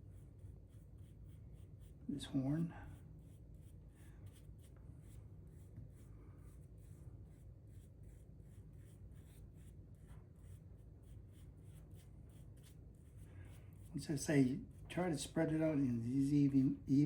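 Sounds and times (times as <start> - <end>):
faint rubbing strokes on antler: 0.0 - 16.4
low steady hum: 0.0 - 17.0.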